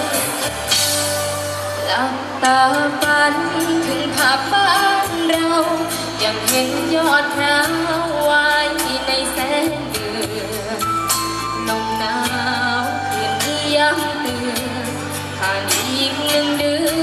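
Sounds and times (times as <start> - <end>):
backing music with steady beat: 0.0 - 17.0
woman singing into a microphone: 1.6 - 17.0.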